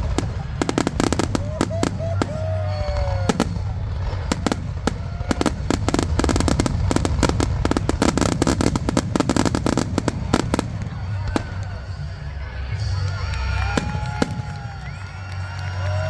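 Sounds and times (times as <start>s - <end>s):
fireworks bursts and cracks: 0.0s - 16.0s.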